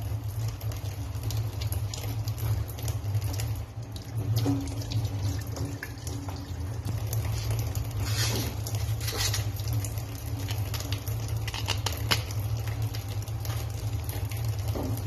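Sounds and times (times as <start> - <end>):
tap water running into basin: 0.0 - 15.0.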